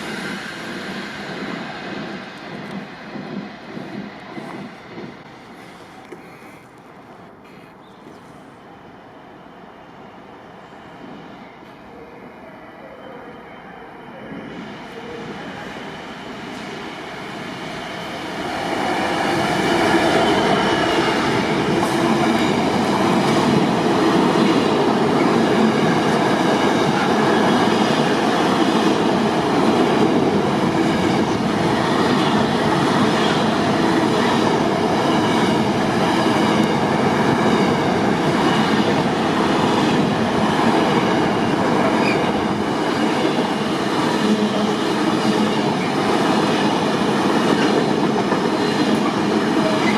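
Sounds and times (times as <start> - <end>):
train running on rails: 0.0 - 49.9.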